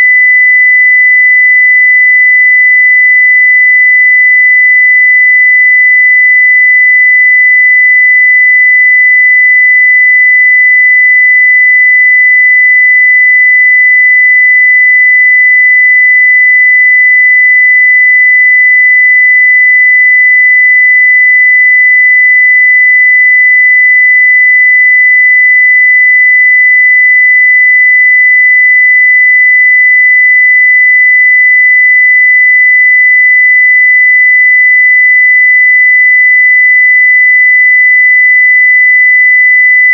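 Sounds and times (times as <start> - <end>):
steady sine-wave test tone: 0.0 - 39.9.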